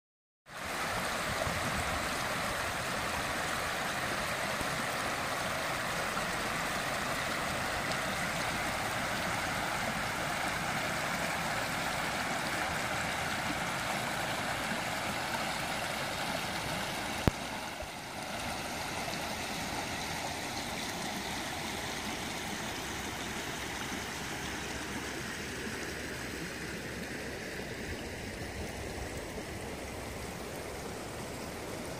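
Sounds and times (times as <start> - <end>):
floodwater rushing: 0.5 - 31.9.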